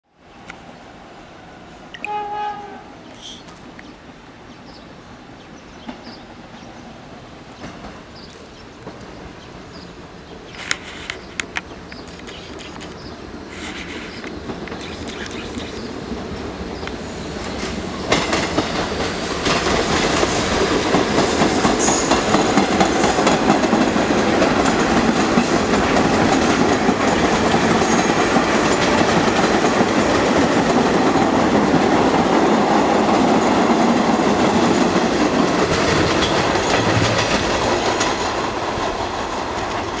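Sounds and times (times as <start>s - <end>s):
subway train rumbling past: 0.2s - 40.0s.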